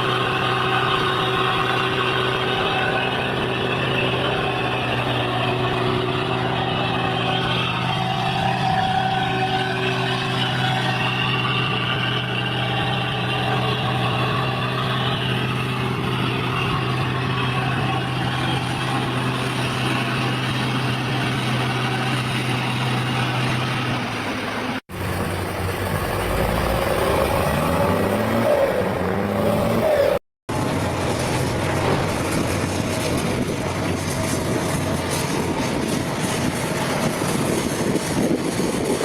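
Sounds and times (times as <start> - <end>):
engine revving: 0.0 - 39.0
heavy vehicle engine running: 0.0 - 39.0.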